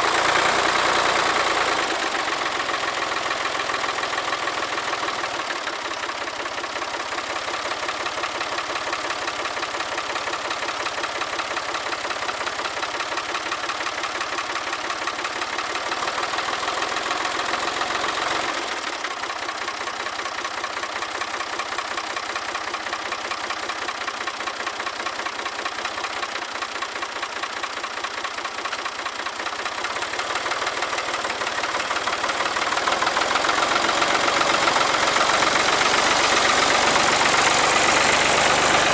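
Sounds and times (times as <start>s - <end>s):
diesel tractor engine clattering: 0.1s - 38.9s.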